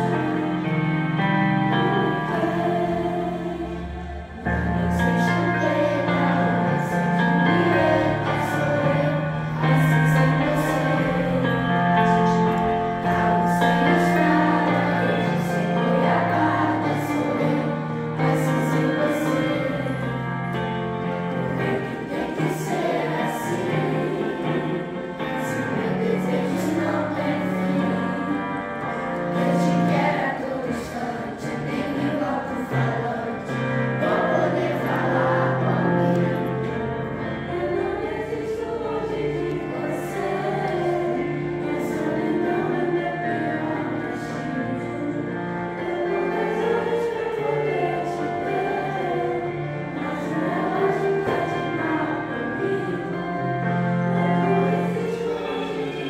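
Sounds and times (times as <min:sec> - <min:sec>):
electronic keyboard: 0:00.0 - 0:56.0
youth choir singing: 0:00.0 - 0:56.0.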